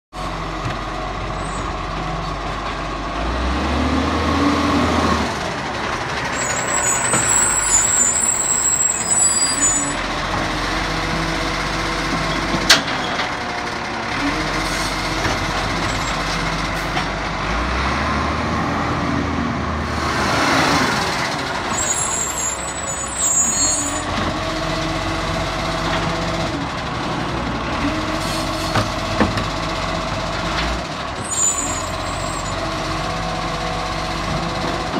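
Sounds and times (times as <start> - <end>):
garbage truck engine: 0.1 - 34.9.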